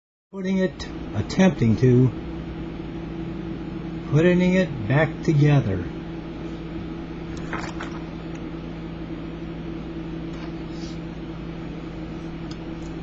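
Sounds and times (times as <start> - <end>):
machine hum with hiss: 0.4 - 13.0.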